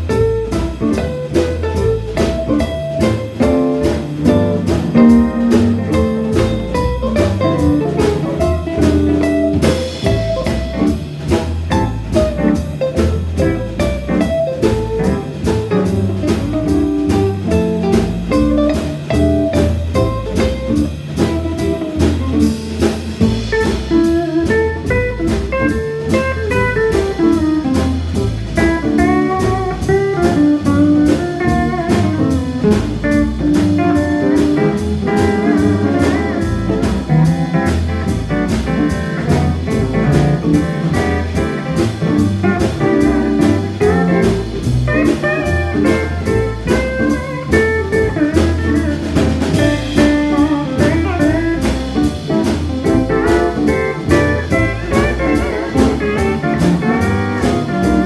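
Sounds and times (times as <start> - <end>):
drum kit: 0.0 - 58.0
pedal steel guitar: 0.0 - 58.0
upright bass: 0.0 - 58.0.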